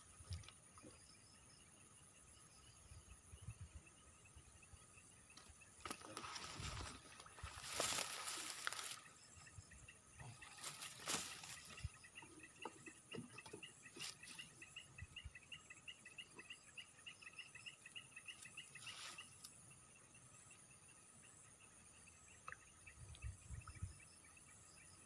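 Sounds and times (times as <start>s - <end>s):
faint high insect drone: 0.0s - 25.0s
bird chirping: 0.7s - 25.0s.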